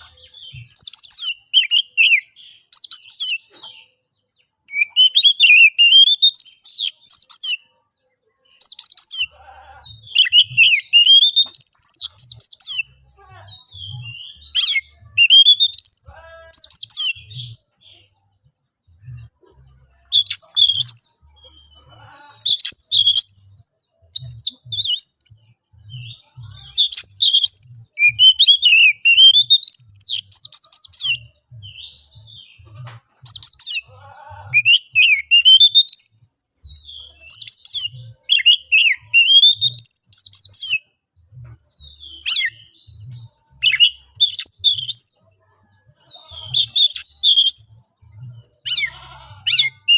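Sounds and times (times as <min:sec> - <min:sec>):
magpie-robin singing: 0:00.0 - 0:07.7, 0:08.5 - 0:09.3, 0:09.9 - 0:18.2, 0:19.8 - 0:32.6, 0:33.2 - 0:33.9, 0:34.5 - 0:41.0, 0:41.6 - 0:49.9.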